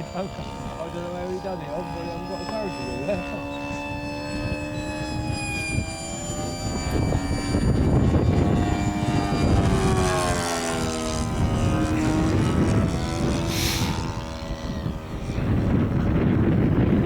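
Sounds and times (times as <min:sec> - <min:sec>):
model plane motor droning: 0:00.0 - 0:17.0
wind buffeting microphone: 0:00.0 - 0:17.0.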